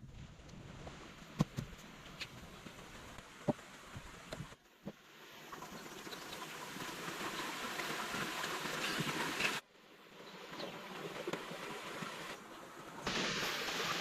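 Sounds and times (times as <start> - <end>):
rushing water: 0.9 - 14.0.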